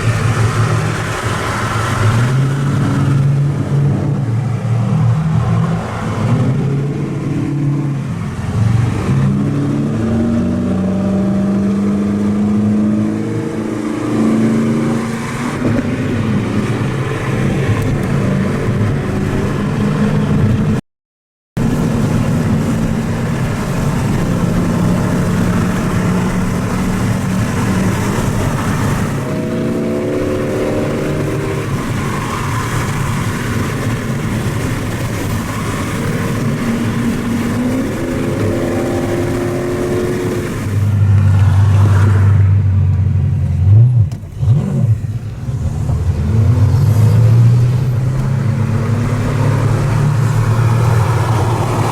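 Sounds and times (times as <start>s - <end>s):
car engine revving: 0.0s - 20.8s, 21.6s - 51.9s.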